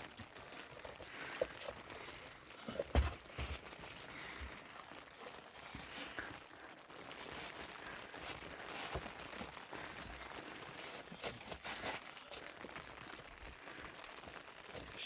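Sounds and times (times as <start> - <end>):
crunching and rustling: 0.0 - 15.0.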